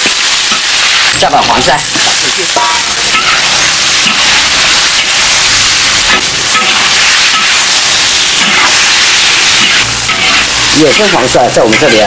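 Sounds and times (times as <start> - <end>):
fish frying in oil sizzling: 0.0 - 12.0
metal spatula stirring in wok: 0.0 - 12.0.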